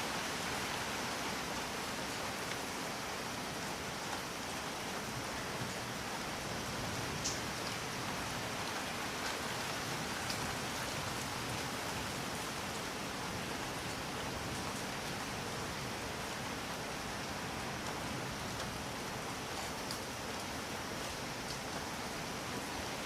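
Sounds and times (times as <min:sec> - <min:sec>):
steady rain hissing: 0:00.0 - 0:23.0.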